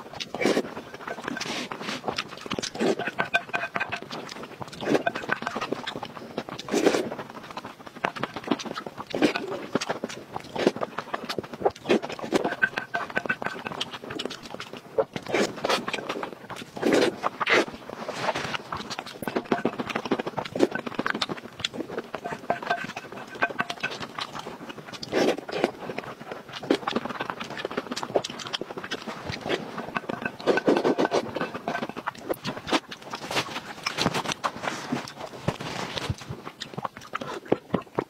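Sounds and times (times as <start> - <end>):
mouth clicks and smacks: 0.0 - 38.0
person chewing food: 0.0 - 38.0.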